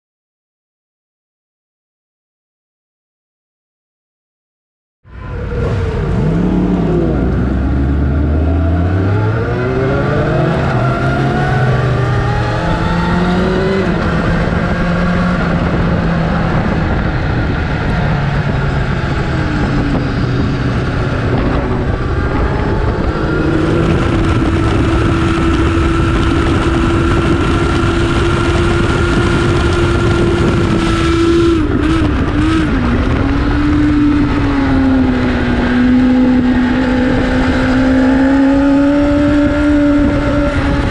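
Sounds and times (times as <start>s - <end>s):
motorcycle engine accelerating: 5.1s - 40.9s
wind rush: 5.1s - 40.9s.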